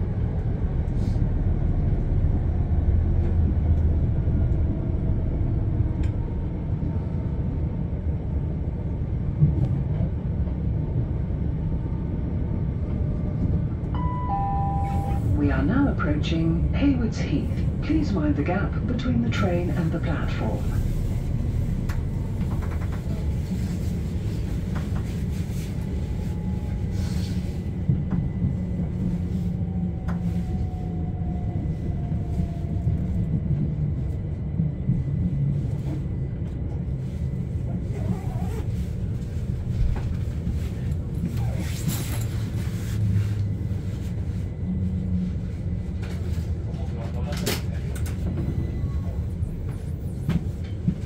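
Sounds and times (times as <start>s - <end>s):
electric train rumble: 0.0s - 51.0s.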